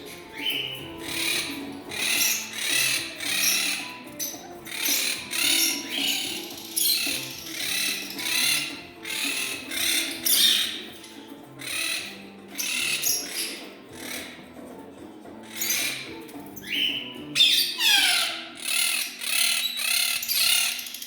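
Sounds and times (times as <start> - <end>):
background music: 0.0 - 20.8
pet birds screeching: 0.0 - 21.0.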